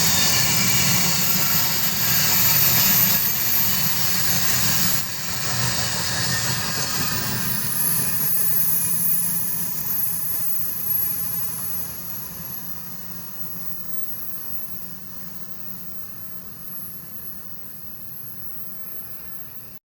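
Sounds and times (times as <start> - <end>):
freight train rumbling past: 0.0 - 19.8.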